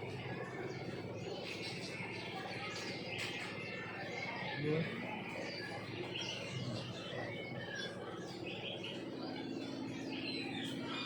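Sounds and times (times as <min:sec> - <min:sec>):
small birds chirping: 0:00.0 - 0:11.0
steady background hum: 0:00.0 - 0:11.0.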